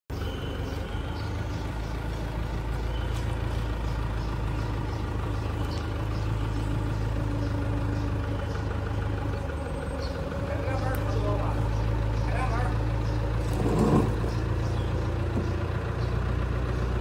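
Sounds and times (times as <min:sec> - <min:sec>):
tractor engine running: 0:00.1 - 0:17.0.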